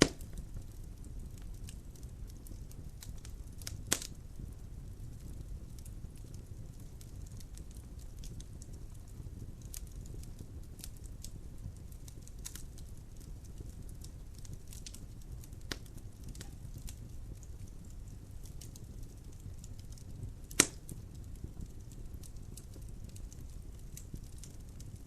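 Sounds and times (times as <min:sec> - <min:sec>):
burning logs crackling and popping: 0:00.0 - 0:25.0
flame rumbling in fireplace: 0:00.0 - 0:25.0.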